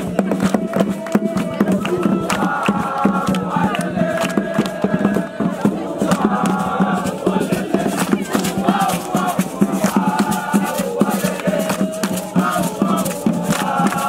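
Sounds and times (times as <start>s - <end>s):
group of voices chanting: 0.0s - 14.0s
hand percussion beats: 0.0s - 14.0s.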